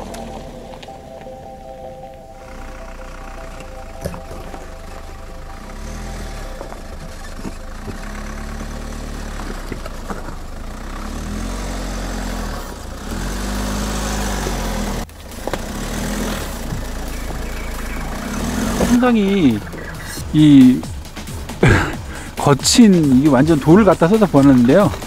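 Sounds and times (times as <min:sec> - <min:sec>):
diesel truck engine: 0:00.0 - 0:25.0
stones clicking under tyres: 0:03.2 - 0:25.0.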